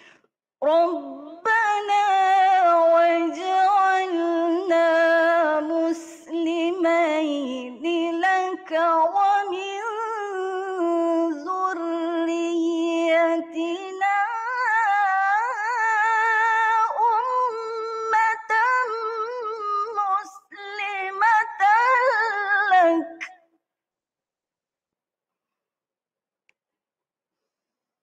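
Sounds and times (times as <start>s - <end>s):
woman chanting melodically: 0.6s - 23.4s.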